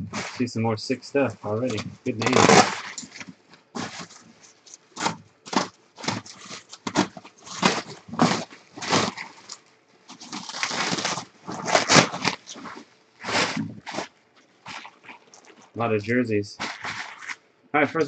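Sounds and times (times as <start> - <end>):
bubble wrap crinkling: 0.0 - 0.5, 1.4 - 16.0, 16.6 - 17.4.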